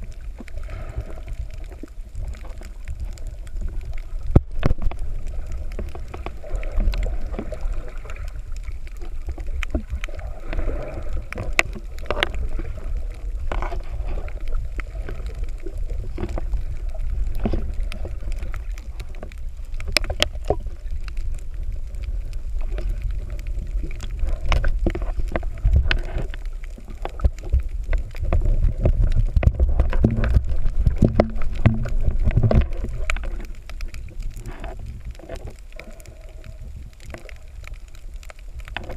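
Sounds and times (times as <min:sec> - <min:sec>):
underwater rumble of moving water: 0:00.0 - 0:38.9.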